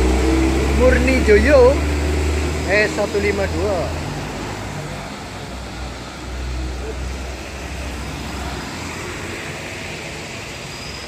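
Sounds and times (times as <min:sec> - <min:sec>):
coach engine drone: 0:00.0 - 0:11.0
tyres hissing on wet road: 0:00.0 - 0:11.0.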